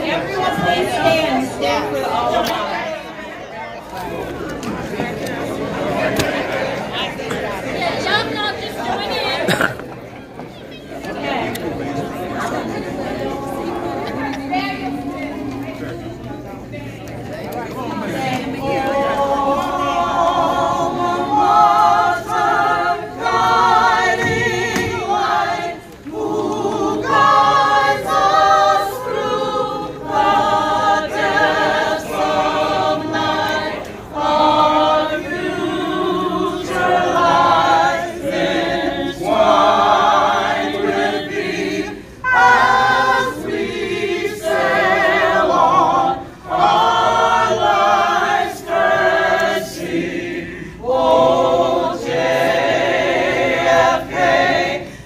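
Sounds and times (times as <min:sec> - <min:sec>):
group of people singing: 0:00.0 - 0:03.3, 0:04.0 - 0:09.8, 0:10.9 - 0:55.0.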